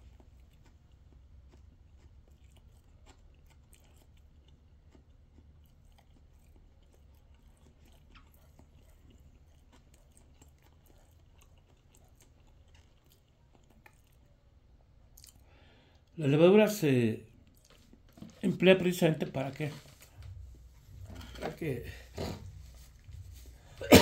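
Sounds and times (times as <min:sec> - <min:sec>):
chewing bread: 0:00.0 - 0:23.9
low steady hum: 0:00.0 - 0:24.0.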